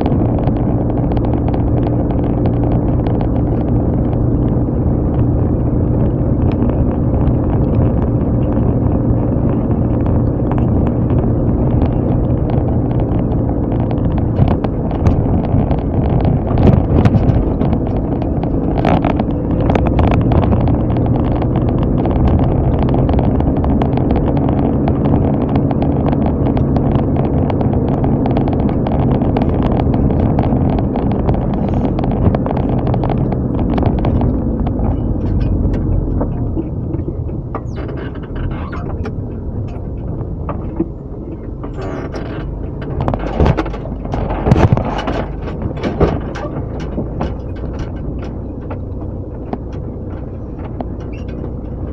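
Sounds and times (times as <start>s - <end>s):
car engine hum: 0.0s - 51.9s
road noise: 0.0s - 51.9s.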